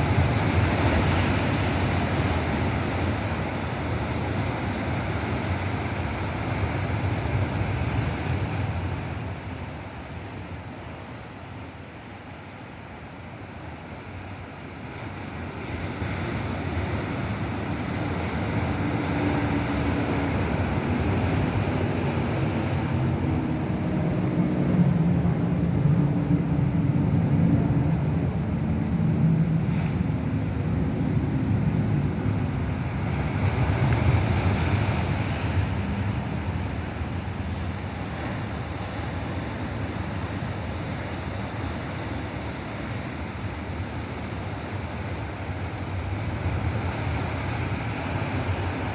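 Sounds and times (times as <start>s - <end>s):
ocean surf breaking: 0.0s - 11.6s, 14.6s - 48.9s.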